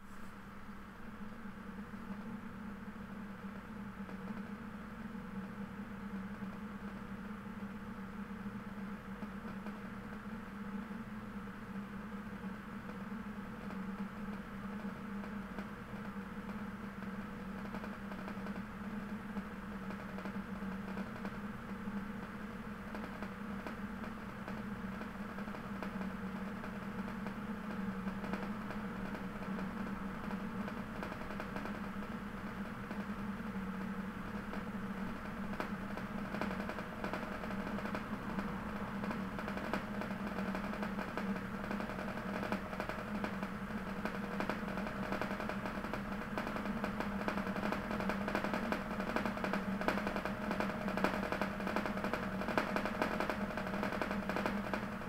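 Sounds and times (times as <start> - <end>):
low mechanical hum with hiss: 0.0 - 55.0.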